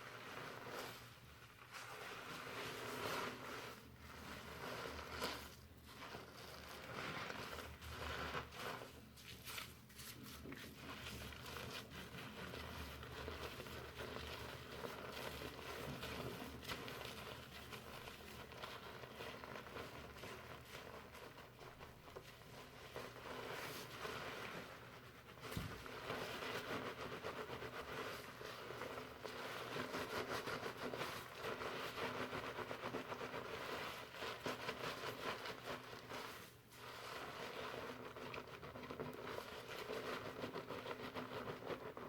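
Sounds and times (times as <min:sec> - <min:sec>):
shampoo lather rustling in hair: 0:00.0 - 0:42.0.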